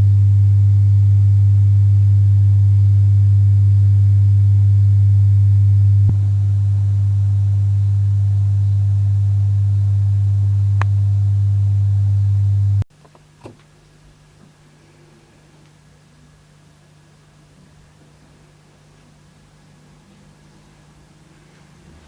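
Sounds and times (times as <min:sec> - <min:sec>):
low mains hum: 0:00.0 - 0:22.0.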